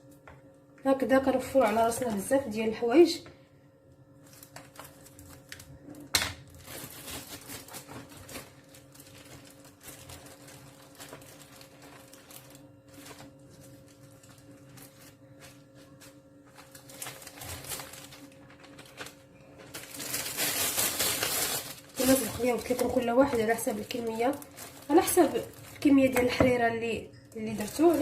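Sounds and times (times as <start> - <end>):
faint steady hum: 0.0 - 28.0
plastic bags crinkling: 4.2 - 28.0.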